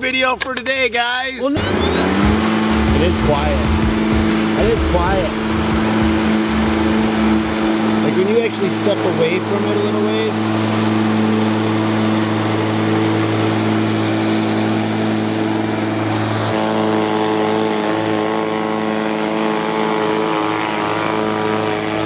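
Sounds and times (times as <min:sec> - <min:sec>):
electric lawn mower humming: 0:01.5 - 0:22.0.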